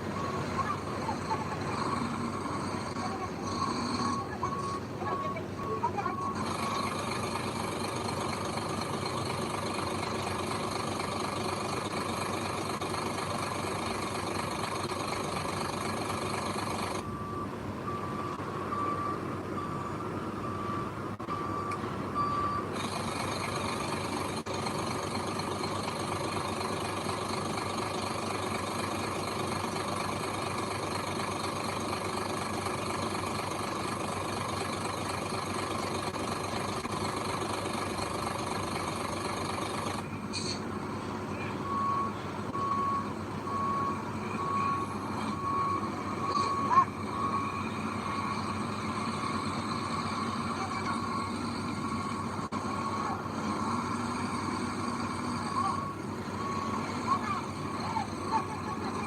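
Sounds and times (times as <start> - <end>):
diesel engine running: 0.0 - 59.0
reversing alarm beeping: 0.1 - 40.1, 41.4 - 59.0.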